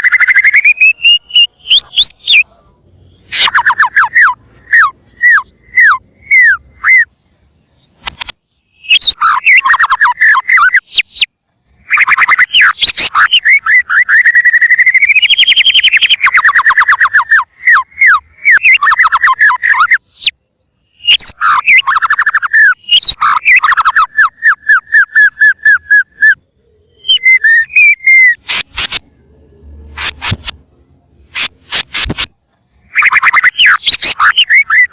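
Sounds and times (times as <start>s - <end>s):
bird singing whistled notes: 0.0s - 34.9s.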